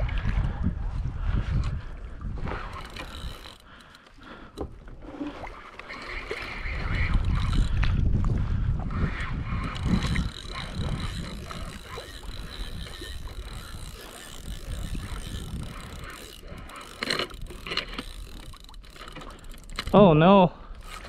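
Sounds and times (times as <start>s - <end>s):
fishing reel whirring and clicking: 2.4s - 8.1s, 9.0s - 21.0s.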